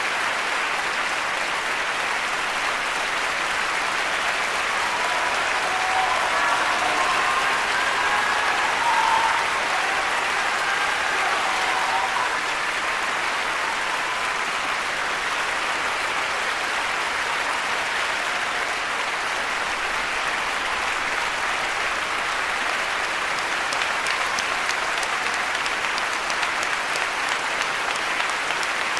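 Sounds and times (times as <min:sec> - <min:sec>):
audience applauding: 0:00.0 - 0:28.9.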